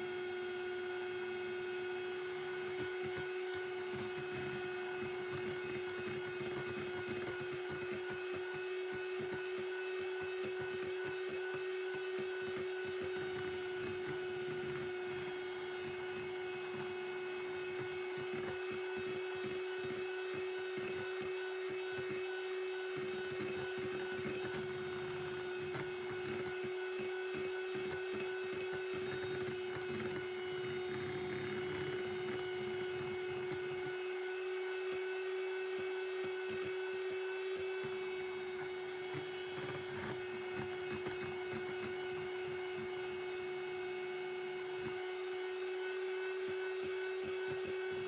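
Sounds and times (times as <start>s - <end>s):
electric hand mixer whining: 0.0s - 48.0s.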